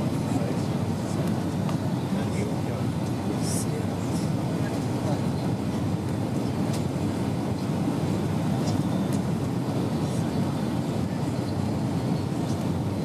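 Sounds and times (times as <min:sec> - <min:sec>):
airplane cabin engine rush: 0:00.0 - 0:13.0.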